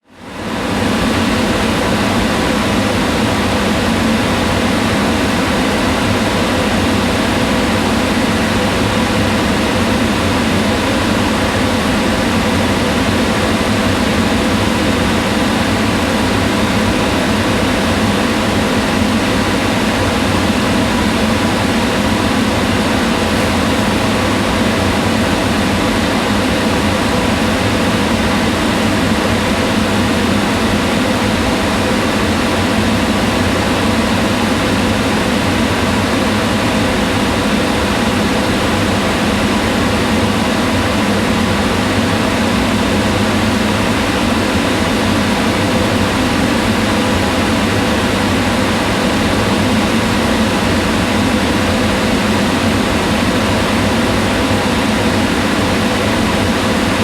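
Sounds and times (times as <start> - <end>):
range hood fan humming: 0.0 - 57.0.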